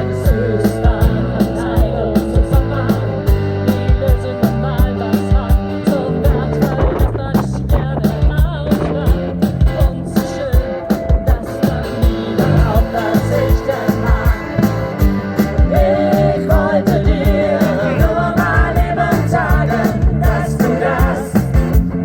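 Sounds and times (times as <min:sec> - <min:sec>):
person singing: 0:00.0 - 0:21.6
drum beat: 0:02.3 - 0:11.5, 0:12.1 - 0:22.0.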